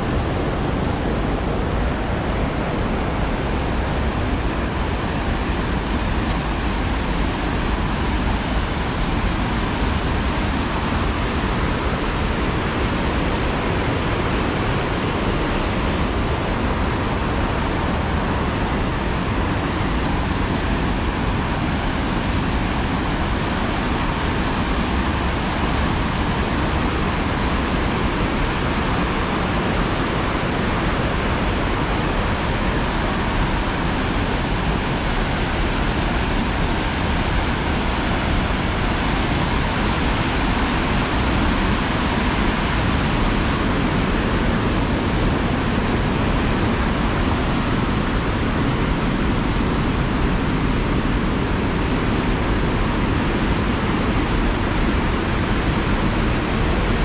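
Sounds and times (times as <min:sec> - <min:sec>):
water rushing over weirs: 0:00.0 - 0:57.0.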